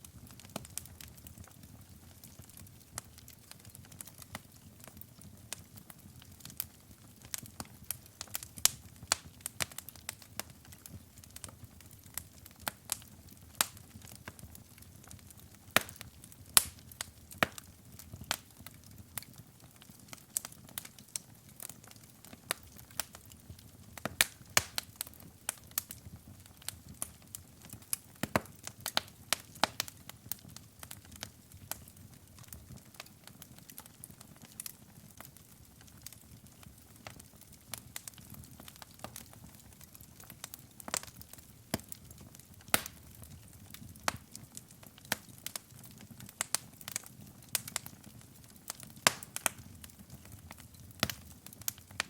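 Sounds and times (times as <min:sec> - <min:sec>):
wood fire crackling and popping: 0:00.0 - 0:52.0.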